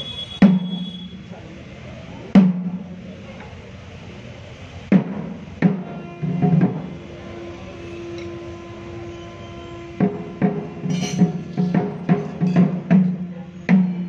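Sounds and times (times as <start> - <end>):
drum beats with ringing tail: 0.0 - 1.5, 2.2 - 3.2, 4.8 - 14.0.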